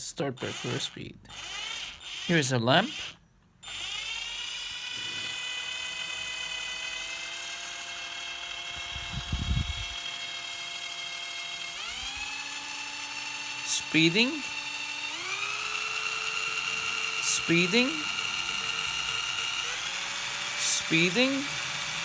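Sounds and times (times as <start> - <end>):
cordless drill motor whine: 0.4 - 22.0.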